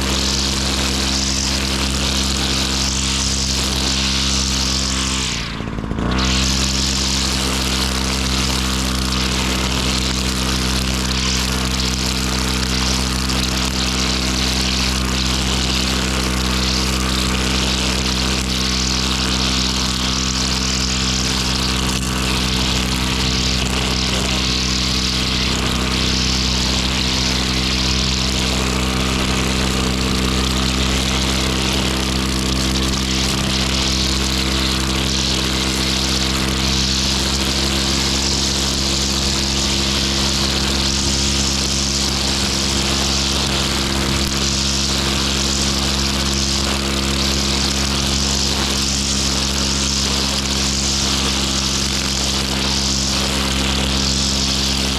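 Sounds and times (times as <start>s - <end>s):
lawn mower engine running: 0.0s - 54.9s.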